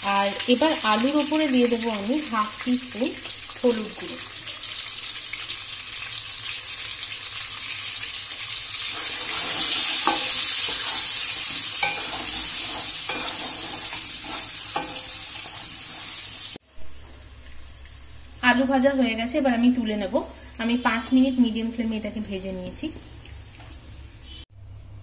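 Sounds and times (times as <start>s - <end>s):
potatoes sizzling in oil: 0.0s - 24.4s.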